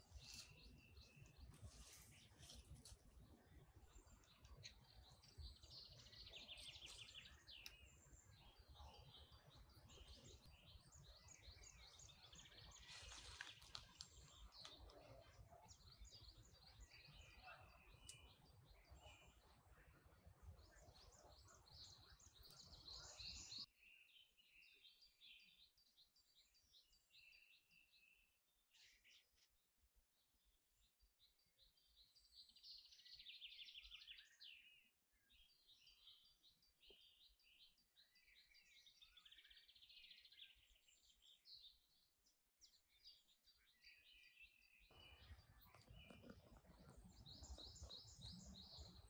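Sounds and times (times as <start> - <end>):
small birds chirping: 0.0 - 29.6, 30.5 - 49.0.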